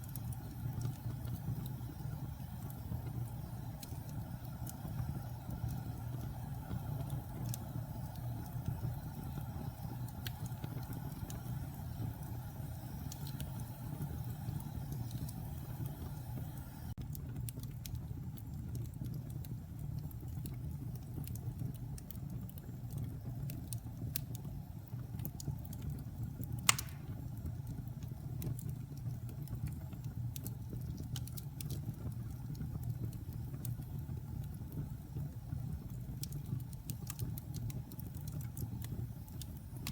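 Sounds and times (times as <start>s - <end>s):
fire crackling and popping: 0.0s - 39.9s
low steady fire rumble: 0.0s - 39.9s.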